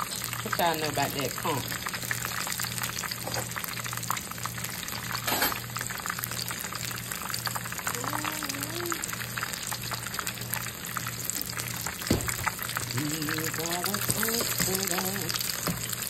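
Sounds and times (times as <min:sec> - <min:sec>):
food deep-frying in oil: 0:00.0 - 0:16.0.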